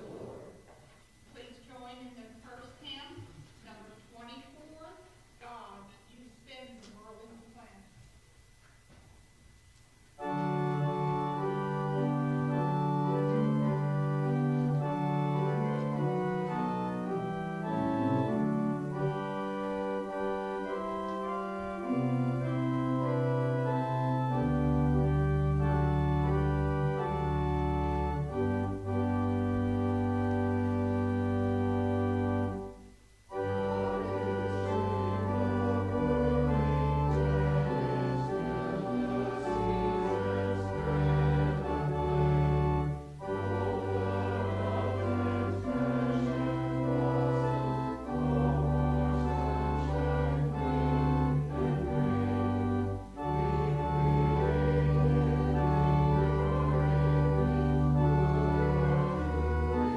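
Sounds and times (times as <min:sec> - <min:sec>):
church organ chords: 0:09.9 - 0:59.9
deep organ pedal bass notes: 0:10.2 - 0:59.9.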